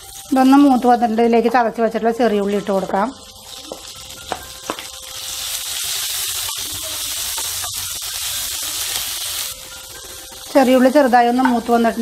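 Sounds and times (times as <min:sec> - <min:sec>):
shallots sizzling in oil: 0:00.0 - 0:12.0.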